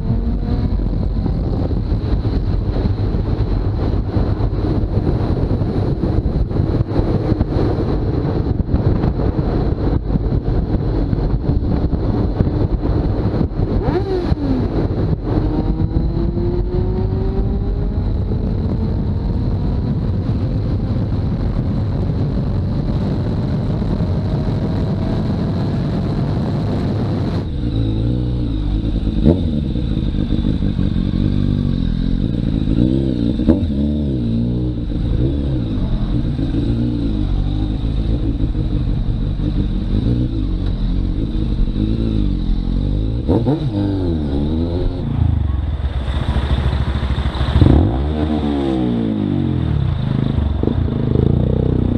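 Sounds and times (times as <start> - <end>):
motorcycle engine revving: 0.0 - 21.8, 23.0 - 51.9
wind rush: 0.0 - 51.9.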